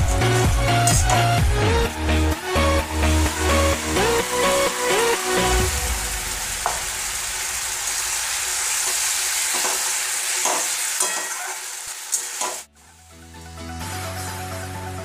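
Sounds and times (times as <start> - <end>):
curry sizzling in pan: 0.1 - 14.8.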